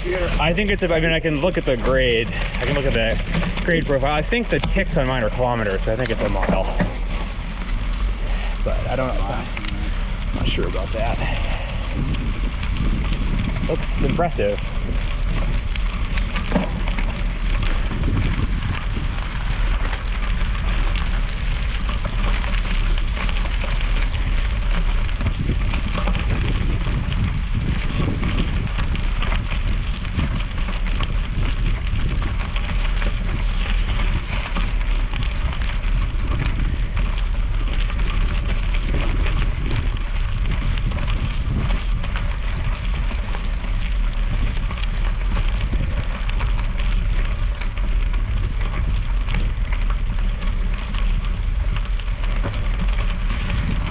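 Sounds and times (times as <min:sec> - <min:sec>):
tyres crackling on gravel: 0:00.0 - 0:53.9
wind rumble: 0:00.0 - 0:53.9.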